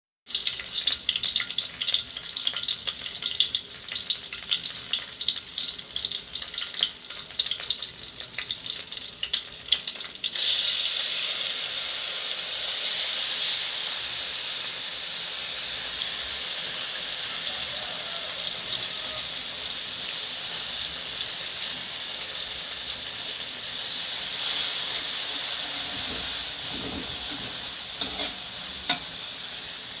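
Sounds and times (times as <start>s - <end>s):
food frying in hot oil: 0.2s - 30.0s.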